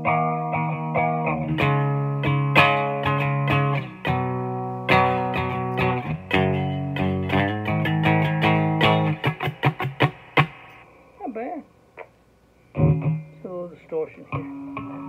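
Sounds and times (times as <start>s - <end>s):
electric guitar strumming chords: 0.0s - 10.8s, 12.7s - 15.0s.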